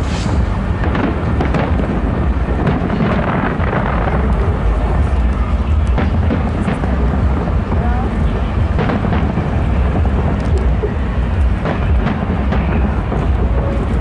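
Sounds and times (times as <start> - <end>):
fireworks sharp cracks: 0.0 - 14.0
fireworks shell bursts rumbling: 0.0 - 14.0.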